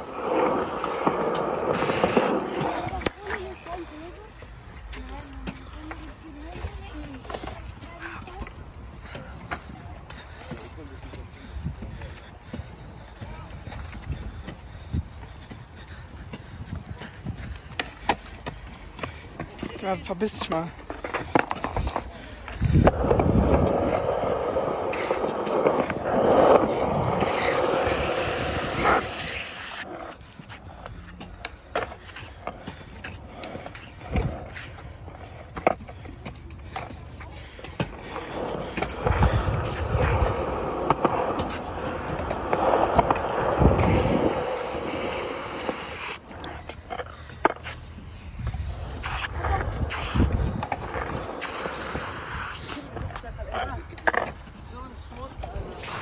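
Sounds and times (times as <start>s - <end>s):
wheelchair wheels rolling on concrete: 0.0s - 56.0s.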